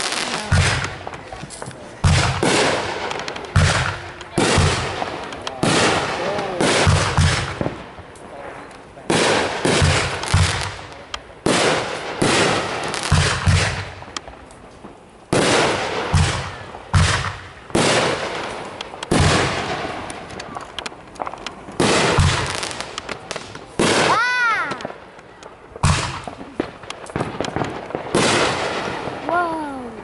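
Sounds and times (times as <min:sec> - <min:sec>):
fireworks bangs with deep thump: 0:00.0 - 0:30.0
fireworks hiss: 0:00.0 - 0:30.0.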